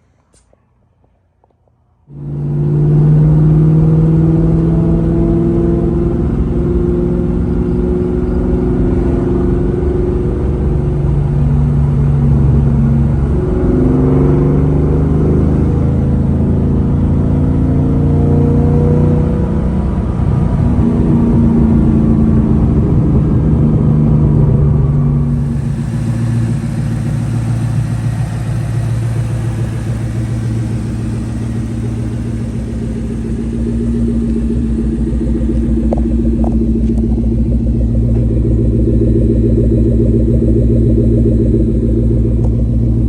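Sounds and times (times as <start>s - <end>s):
car exhaust low rumble: 0.0s - 43.0s.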